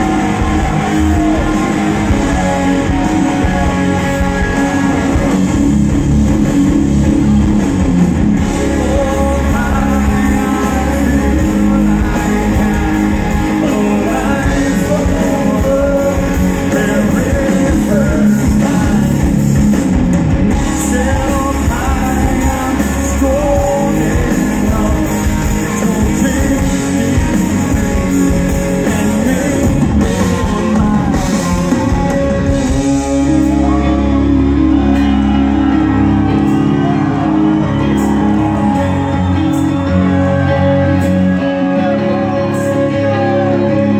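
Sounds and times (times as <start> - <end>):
person singing: 0.0 - 5.4, 8.4 - 19.3, 20.5 - 43.9
bass guitar: 0.0 - 43.9
drums: 0.0 - 43.9
electric guitar: 0.0 - 43.9.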